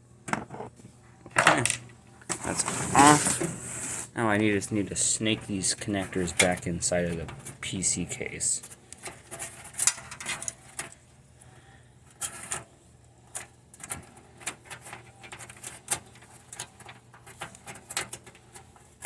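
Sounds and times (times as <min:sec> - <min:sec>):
cables and plastic connectors handled: 0:00.3 - 0:03.6, 0:05.3 - 0:11.5, 0:12.1 - 0:19.0.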